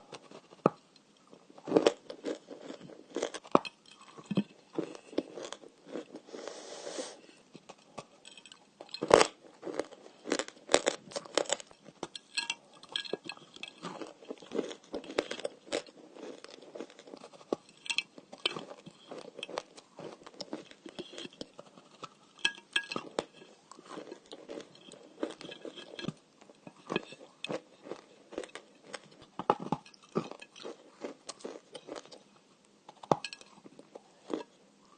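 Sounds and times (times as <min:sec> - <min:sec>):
crunching and chewing clay: 0:00.0 - 0:06.3, 0:07.6 - 0:34.9.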